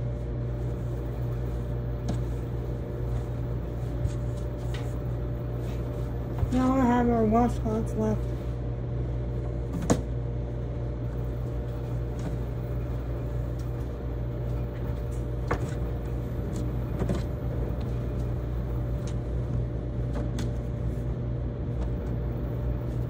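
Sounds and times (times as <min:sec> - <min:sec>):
tumble dryers humming: 0:00.0 - 0:23.0.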